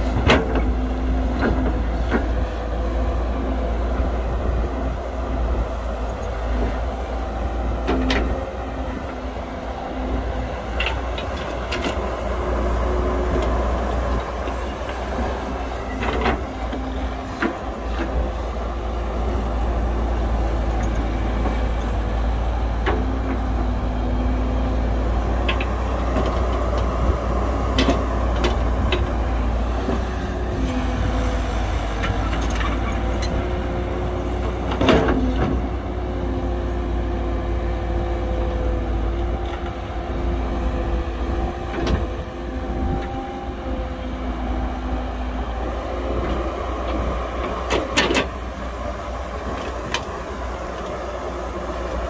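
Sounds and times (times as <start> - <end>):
diesel machinery rumbling: 0.0 - 52.0.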